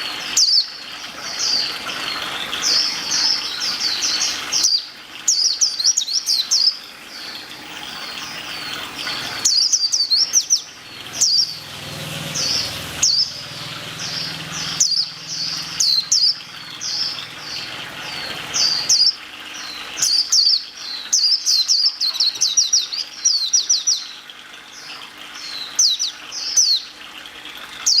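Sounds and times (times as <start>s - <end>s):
small songbird chirping: 0.0s - 27.0s.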